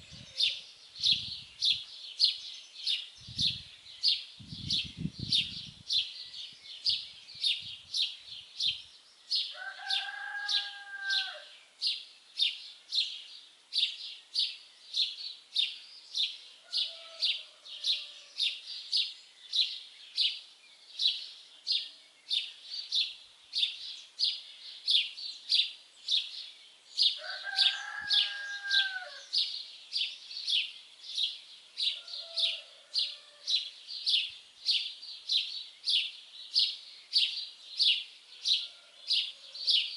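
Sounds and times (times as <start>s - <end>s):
songbird chirping high call: 0.0s - 39.9s.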